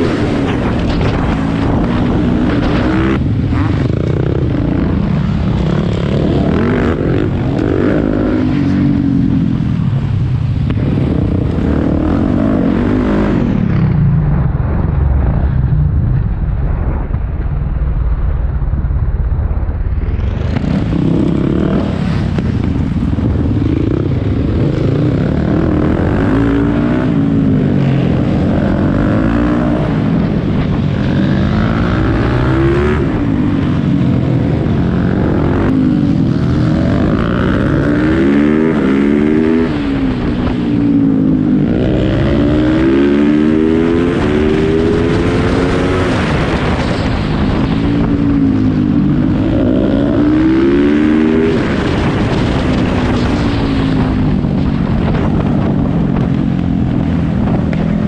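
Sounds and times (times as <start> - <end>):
motorcycle engine revving: 0.0 - 14.6, 20.1 - 58.0.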